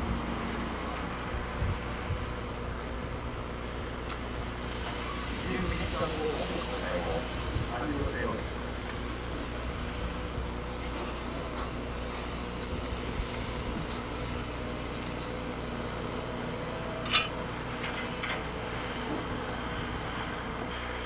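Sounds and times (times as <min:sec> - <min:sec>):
mechanical hum of equipment: 0:00.0 - 0:21.0.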